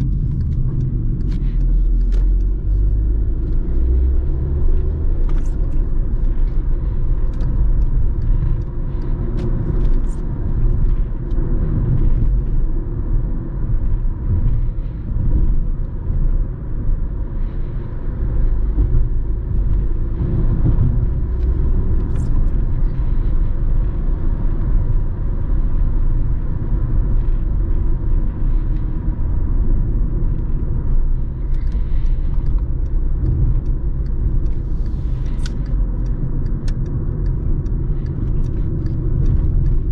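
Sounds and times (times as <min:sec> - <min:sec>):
low mechanical rumble: 0:00.0 - 0:39.9.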